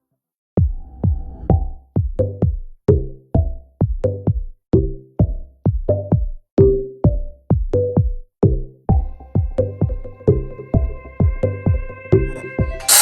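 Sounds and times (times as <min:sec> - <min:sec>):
electronic music with drum-machine beat: 0:00.6 - 0:13.0.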